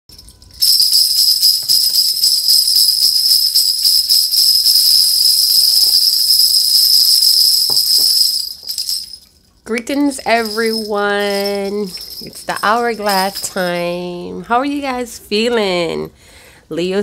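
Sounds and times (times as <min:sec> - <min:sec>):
small metal bells jingling: 0:00.1 - 0:14.0.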